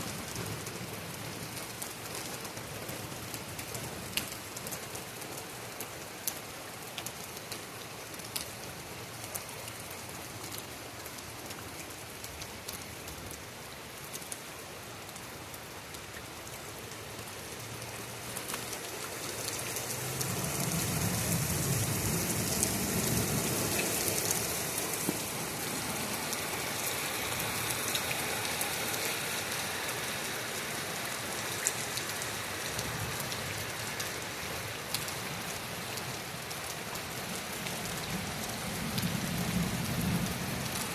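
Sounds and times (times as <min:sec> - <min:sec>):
heavy rain: 0:00.0 - 0:40.9
raindrops tapping close by: 0:00.0 - 0:40.9.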